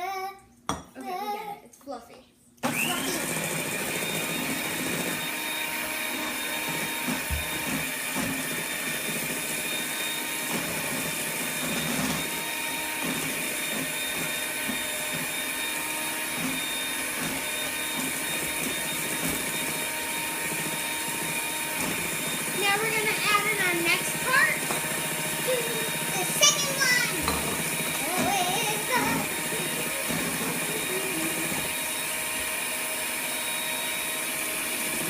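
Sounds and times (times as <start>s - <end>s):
electric mixer running: 2.6s - 35.0s.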